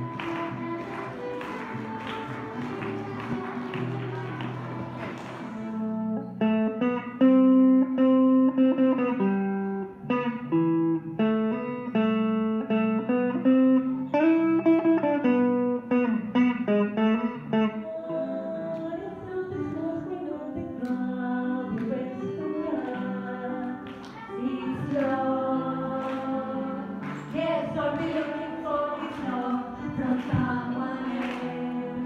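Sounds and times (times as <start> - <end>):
electric guitar picked melody: 0.0 - 32.0.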